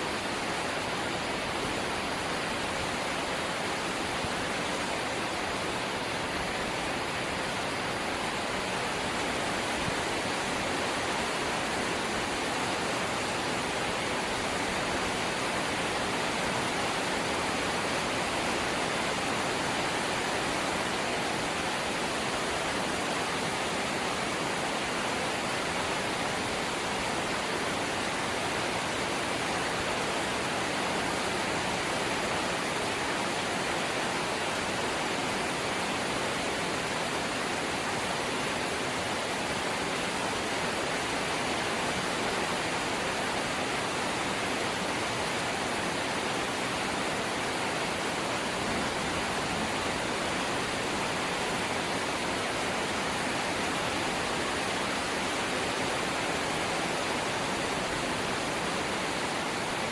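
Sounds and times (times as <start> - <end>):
light rain hiss: 0.0 - 59.9.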